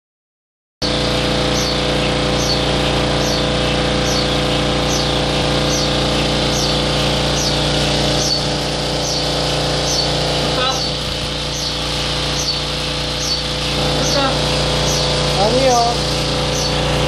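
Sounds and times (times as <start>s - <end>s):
high falling chirp: 0.8s - 17.0s
machine hum: 0.8s - 17.0s.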